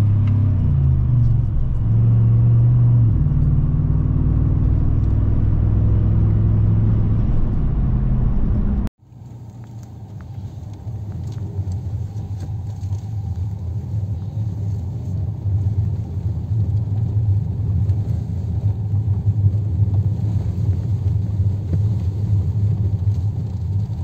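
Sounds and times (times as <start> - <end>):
car engine running: 0.0 - 24.0
low engine rumble with ticks: 0.0 - 24.0.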